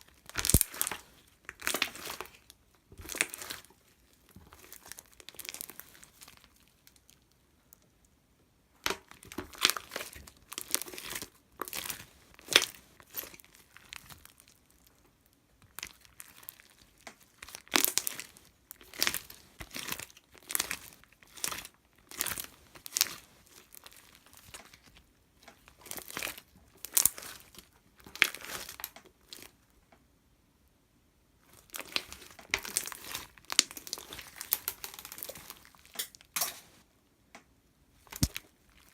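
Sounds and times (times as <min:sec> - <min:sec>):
crinkling and rustling: 0:00.0 - 0:07.2, 0:08.9 - 0:29.6, 0:31.4 - 0:36.9, 0:38.0 - 0:38.9.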